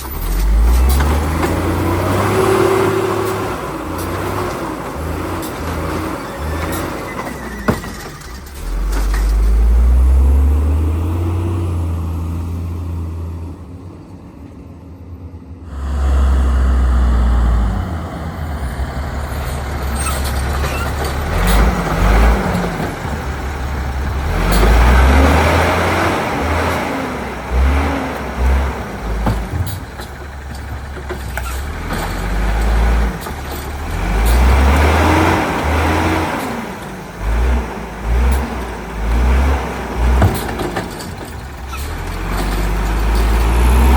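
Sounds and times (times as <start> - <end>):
garbage truck engine revving: 0.0 - 13.8, 15.6 - 43.9.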